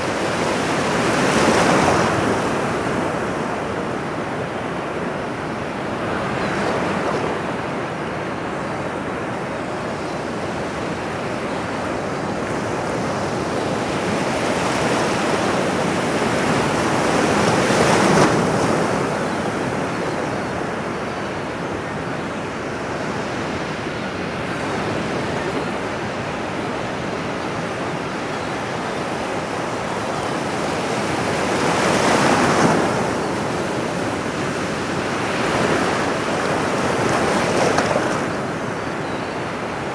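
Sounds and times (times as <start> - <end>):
large waves breaking: 0.0 - 39.9
ocean waves washing: 0.0 - 39.9.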